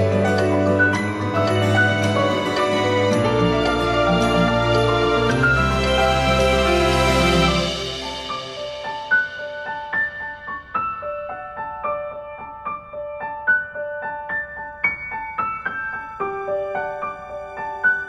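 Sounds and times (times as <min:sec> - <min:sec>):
piano melody: 0:00.0 - 0:18.0.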